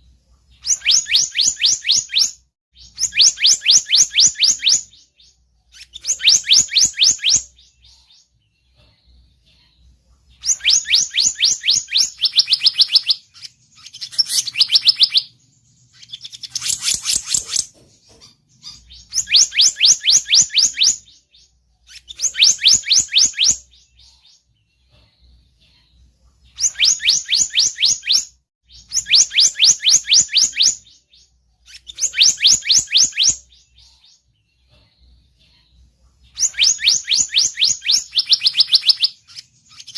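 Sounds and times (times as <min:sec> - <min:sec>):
rapid high bird chirping: 0:00.0 - 0:25.4, 0:26.4 - 0:39.9.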